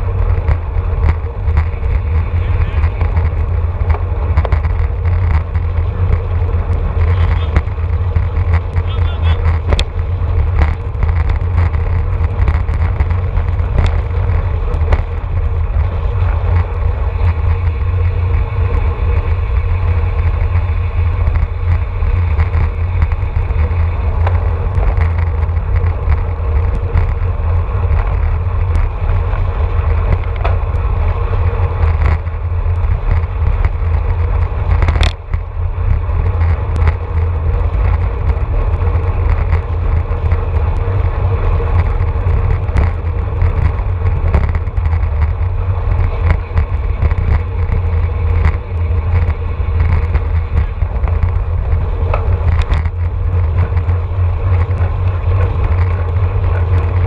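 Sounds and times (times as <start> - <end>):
sharp clicks from bike: 0.0 - 57.0
wind buffeting microphone: 0.0 - 57.0.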